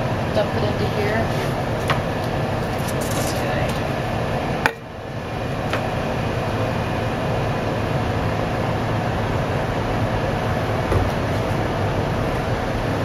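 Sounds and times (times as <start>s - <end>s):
machinery hum and hiss: 0.0s - 13.0s.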